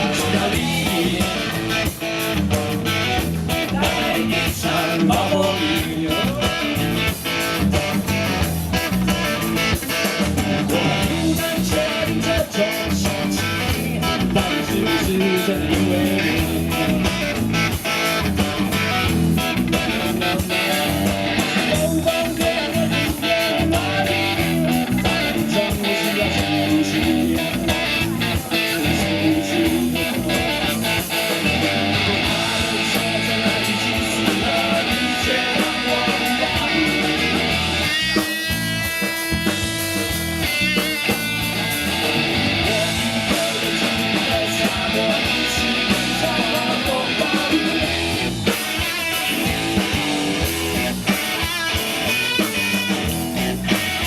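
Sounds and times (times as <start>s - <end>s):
band playing instrumental: 0.0s - 54.0s
electric guitar: 0.0s - 54.0s
high sliding guitar notes: 0.0s - 54.0s
steady drums: 0.0s - 54.0s.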